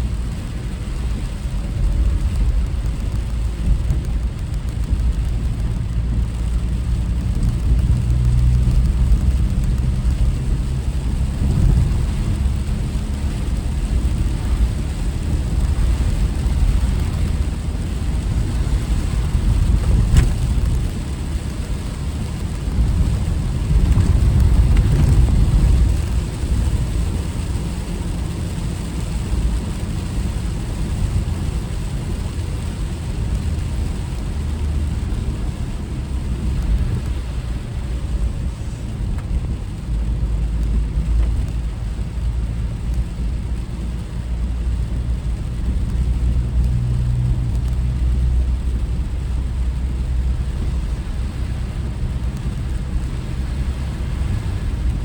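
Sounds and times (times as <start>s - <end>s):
tyres and engine rumble: 0.0s - 55.0s.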